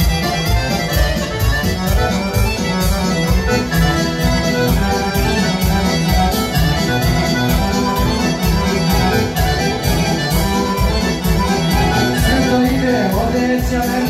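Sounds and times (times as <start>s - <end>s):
folk dance music: 0.0s - 14.0s.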